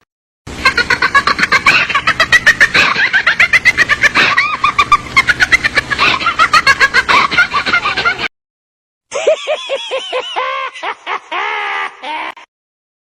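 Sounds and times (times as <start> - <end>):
high-pitched doll cackle: 0.6 - 8.3, 9.1 - 12.5.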